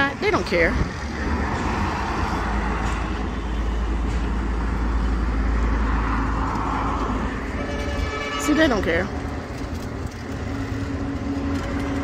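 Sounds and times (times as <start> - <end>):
cars driving past: 0.0 - 12.0
steady low rumble: 0.0 - 12.0.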